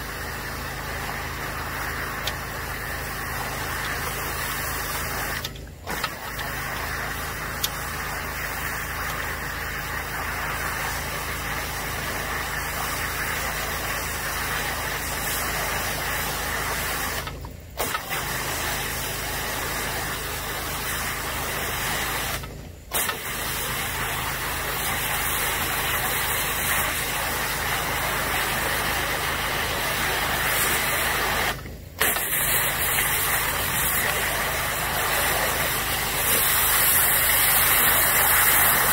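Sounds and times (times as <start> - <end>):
high-pressure water spraying: 0.0 - 38.9.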